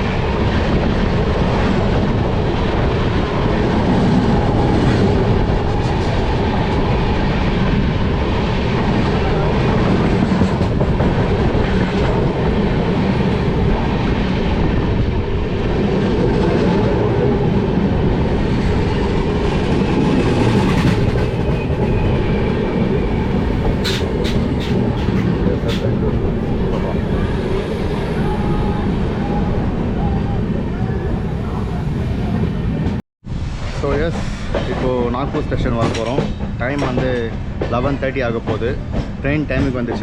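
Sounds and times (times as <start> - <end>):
train rumbling on rails: 0.0 - 40.0.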